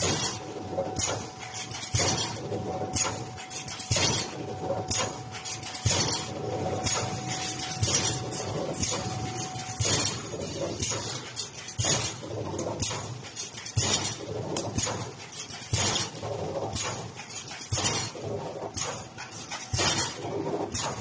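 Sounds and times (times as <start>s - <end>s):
clattering machine noise: 0.0s - 21.0s.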